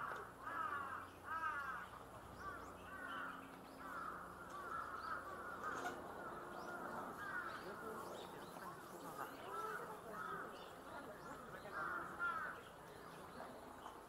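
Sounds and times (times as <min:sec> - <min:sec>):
crows cawing: 0:00.0 - 0:08.1, 0:09.2 - 0:12.7.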